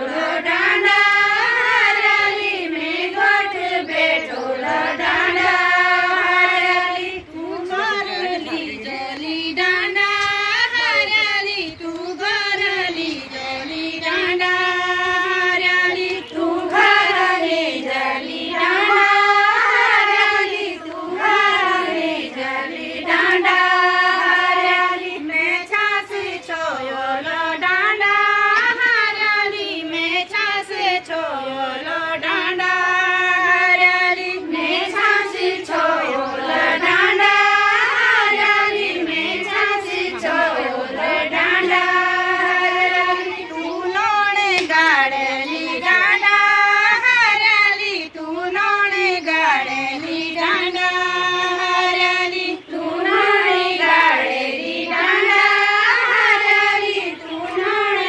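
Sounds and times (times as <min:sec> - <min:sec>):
women singing in unison: 0:00.0 - 0:58.0.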